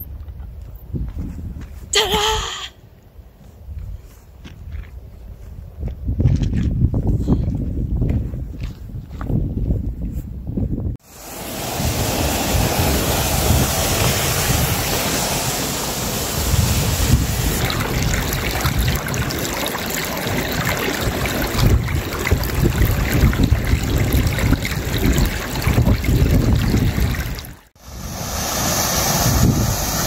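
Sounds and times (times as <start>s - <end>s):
wind buffeting microphone: 0.0s - 1.9s, 3.4s - 27.7s, 29.0s - 30.0s.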